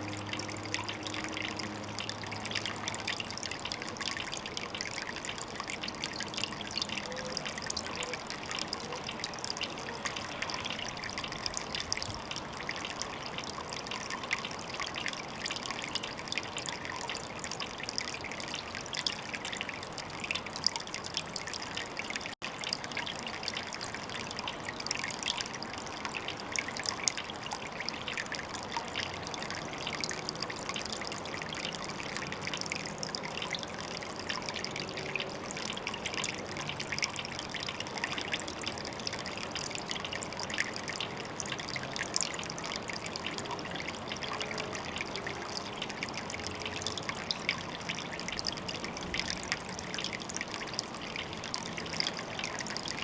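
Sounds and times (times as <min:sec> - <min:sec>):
water trickling and dripping: 0:00.0 - 0:53.0.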